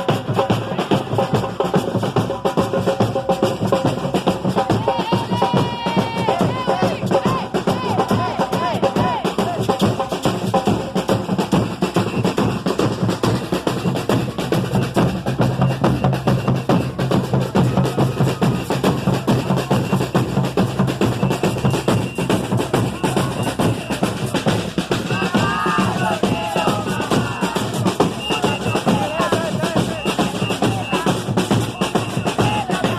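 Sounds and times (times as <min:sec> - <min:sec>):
samba drum groove: 0:00.0 - 0:32.9.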